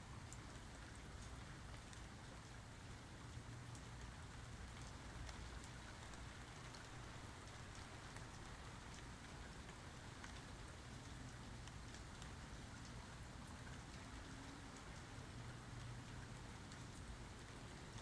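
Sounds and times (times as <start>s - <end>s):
faint steady rain: 0.0s - 18.0s
raindrops ticking on a surface: 0.0s - 18.0s.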